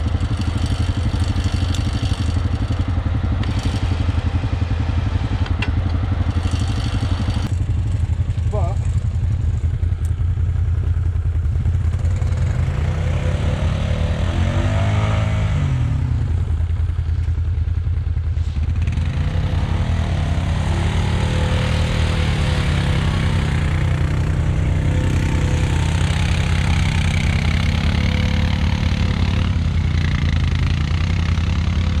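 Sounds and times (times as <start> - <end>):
quad bike engine revving: 0.0 - 17.0, 18.4 - 32.0.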